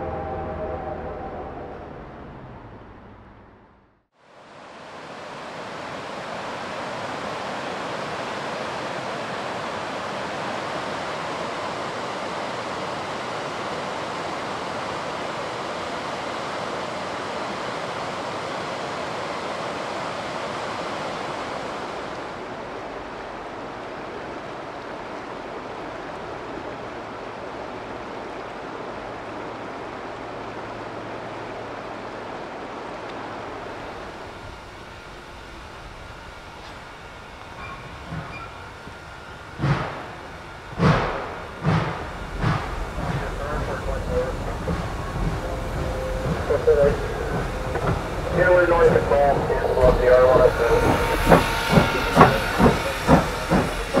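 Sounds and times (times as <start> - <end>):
river water over rapids: 4.2 - 54.0.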